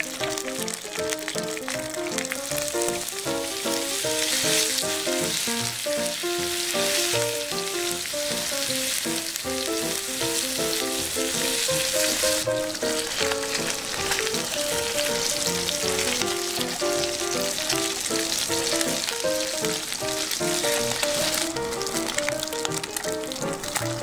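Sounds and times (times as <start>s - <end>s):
food sizzling in oil: 0.0s - 24.0s
melodic background music: 0.0s - 24.0s.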